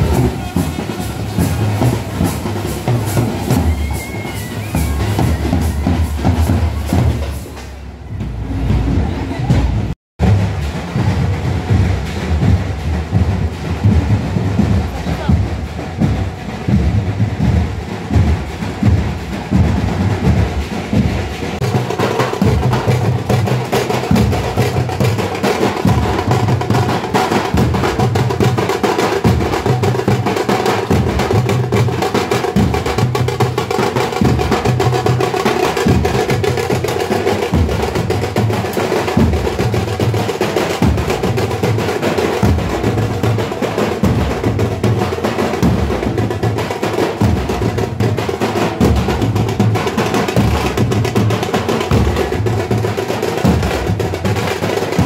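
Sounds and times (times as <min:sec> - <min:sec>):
frame drums playing fast rhythm: 0:00.0 - 0:55.0.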